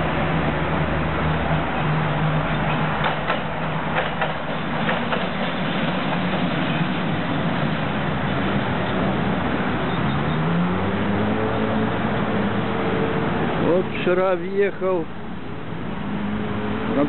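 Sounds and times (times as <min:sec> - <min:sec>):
tram running hum: 0:00.0 - 0:17.0.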